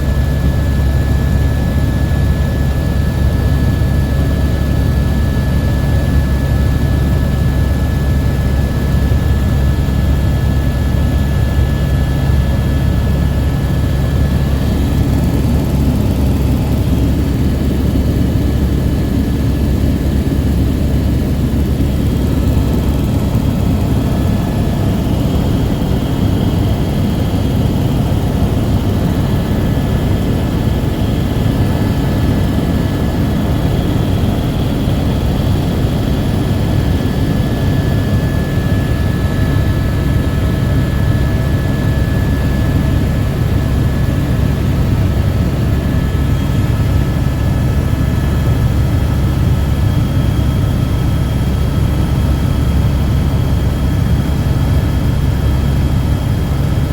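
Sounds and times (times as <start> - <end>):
helicopter engine and rotor drone: 0.0 - 56.9.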